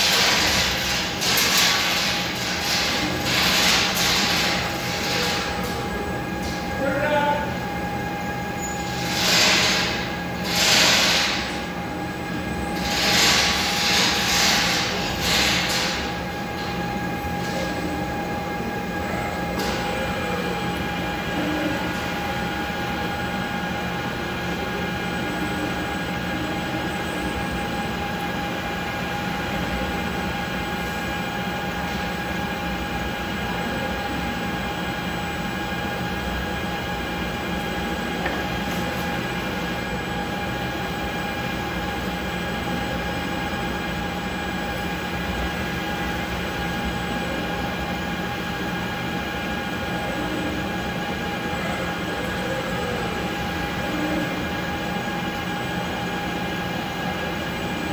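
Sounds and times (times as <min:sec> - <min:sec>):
machine drone with whining tones: 0:00.0 - 0:57.9.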